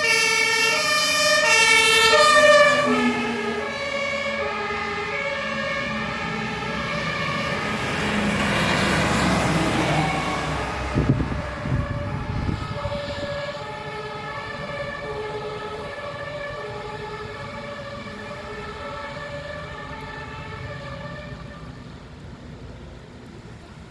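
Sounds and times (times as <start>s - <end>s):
fire engine two-tone siren: 0.0s - 22.0s.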